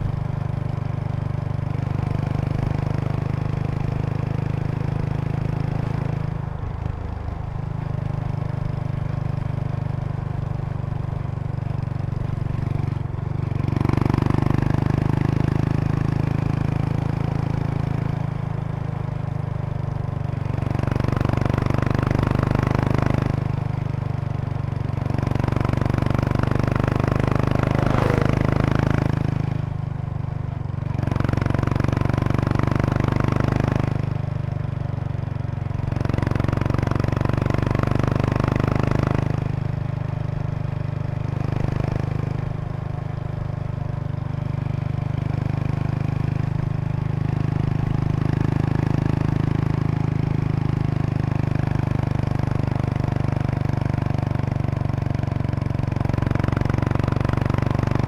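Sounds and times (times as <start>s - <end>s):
motorcycle exhaust: 7.4s - 58.0s.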